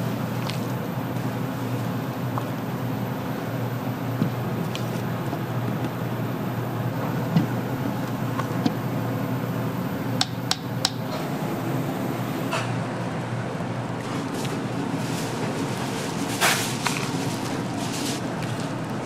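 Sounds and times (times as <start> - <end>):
steady kitchen hum: 0.0 - 19.0.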